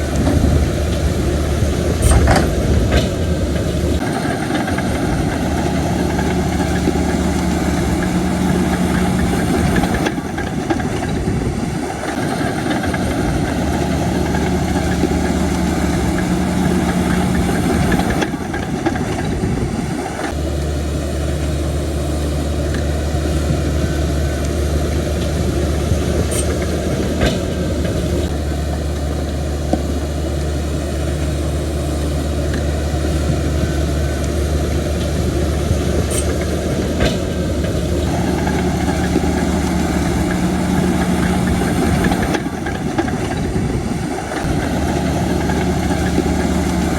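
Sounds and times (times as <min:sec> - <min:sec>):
heavy diesel engines running: 0:00.0 - 0:46.9.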